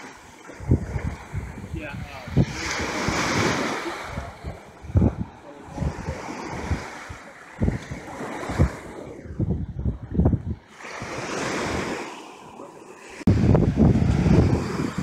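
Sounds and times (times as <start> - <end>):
wind buffeting microphone: 0.0 - 12.2, 13.2 - 15.0
surf washing onto beach: 0.0 - 15.0.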